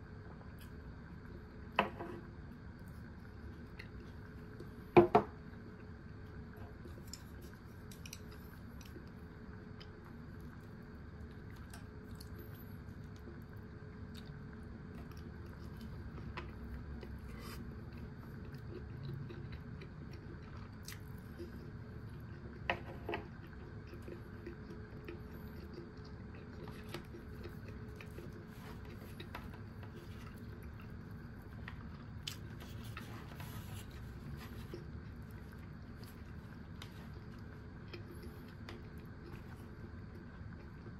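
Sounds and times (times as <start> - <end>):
low room hum: 0.0 - 40.9
person chewing food: 5.6 - 40.9.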